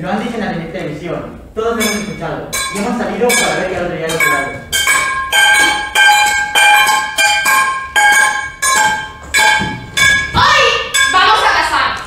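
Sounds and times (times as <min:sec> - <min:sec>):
metal pots being beaten: 0:01.8 - 0:11.8.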